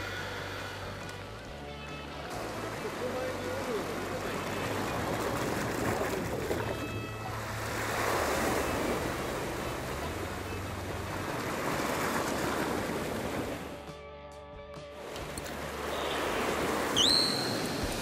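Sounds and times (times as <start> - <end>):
sea water lapping: 2.3 - 13.9, 15.0 - 18.0.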